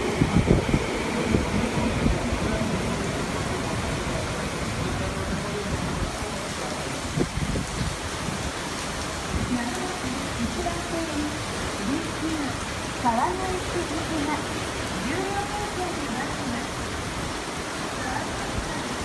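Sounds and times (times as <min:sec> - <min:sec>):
train rumbling: 0:00.0 - 0:08.6, 0:09.2 - 0:19.0
heavy rain rushing: 0:00.0 - 0:19.0.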